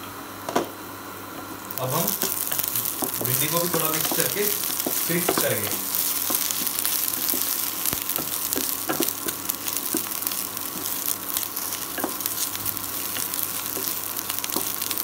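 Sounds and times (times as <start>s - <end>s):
okra sizzling in a pan: 1.6s - 15.0s.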